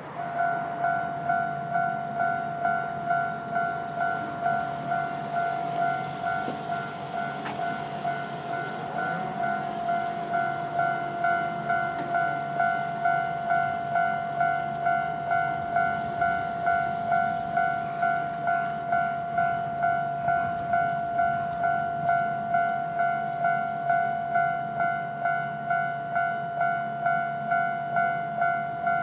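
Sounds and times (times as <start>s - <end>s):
level crossing warning bell: 0.0s - 29.0s.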